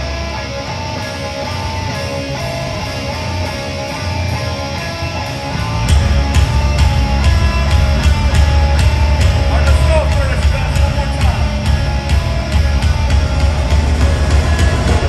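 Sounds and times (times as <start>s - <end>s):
bass and drums beat: 0.0s - 15.0s
electric guitar riff: 0.0s - 15.0s.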